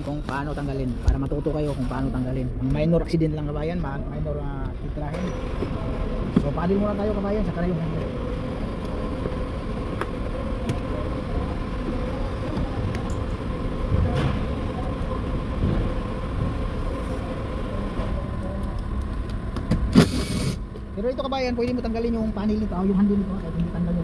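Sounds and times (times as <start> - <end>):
faint constant hum: 0.0 - 24.0
low rumble of machinery: 0.0 - 24.0.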